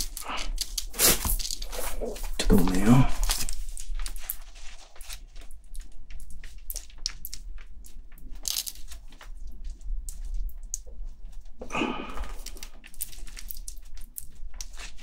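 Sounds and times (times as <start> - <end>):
tissue rustling: 0.0 - 15.0.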